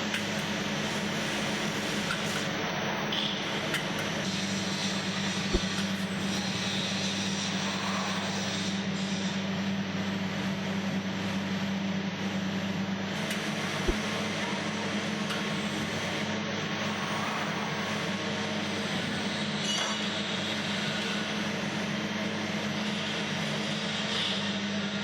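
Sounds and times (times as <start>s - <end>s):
industrial machinery drone: 0.0s - 25.0s.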